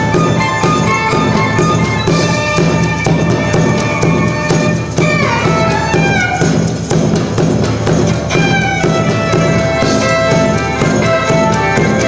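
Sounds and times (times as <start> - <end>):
violin melody: 0.0 - 6.7, 8.1 - 12.0
steady drum beat: 0.0 - 12.0.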